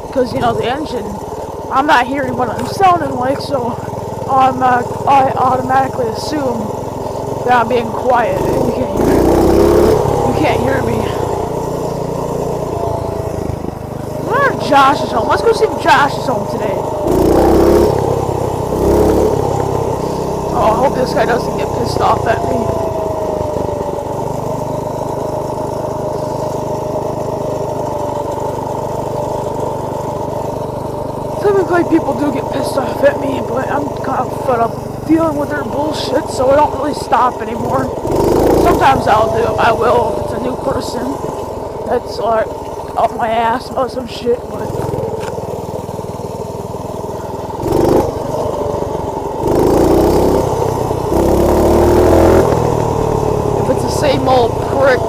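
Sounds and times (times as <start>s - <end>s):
minibike engine running: 0.0s - 55.0s.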